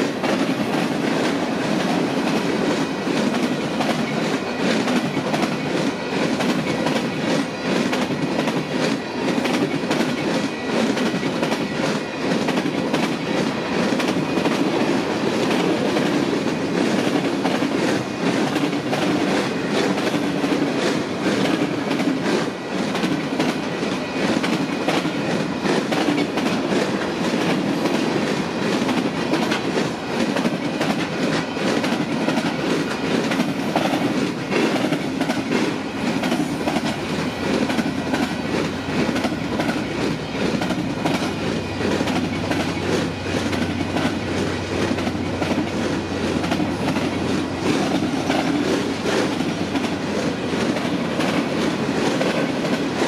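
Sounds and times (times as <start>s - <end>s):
clickety-clack over rail joints: 0.0s - 53.0s
train wheels rumbling on rails: 0.0s - 53.0s.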